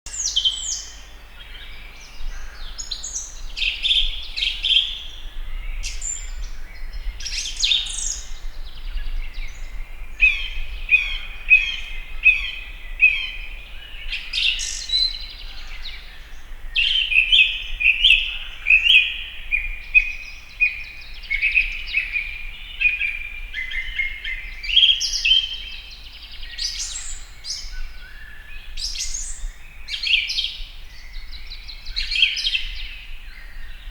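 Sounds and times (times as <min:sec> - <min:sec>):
sparrows chirping: 0:00.1 - 0:33.9.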